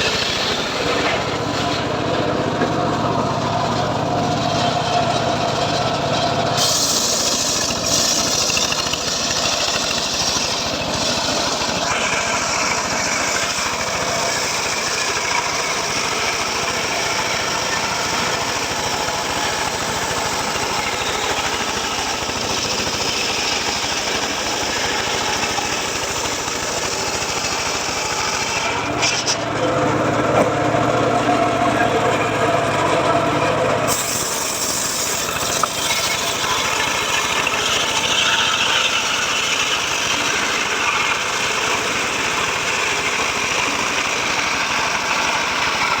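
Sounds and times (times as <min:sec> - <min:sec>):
engine saw cutting wood: 0:00.0 - 0:46.0.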